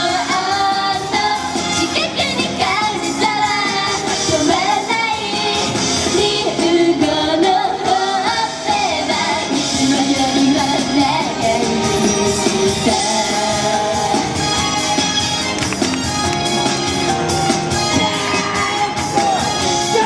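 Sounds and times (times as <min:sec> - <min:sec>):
young female vocals singing: 0:00.0 - 0:14.6, 0:17.9 - 0:20.0
upbeat backing music: 0:00.0 - 0:20.0.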